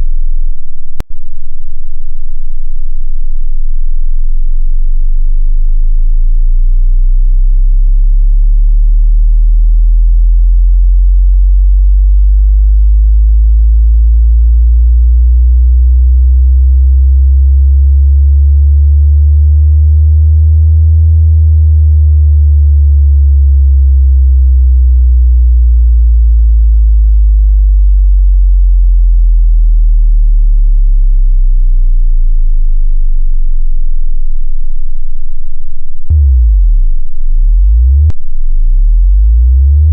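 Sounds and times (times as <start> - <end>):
deep bass tone gliding in pitch: 0.0 - 39.9
steady deep bass hum: 0.0 - 39.9.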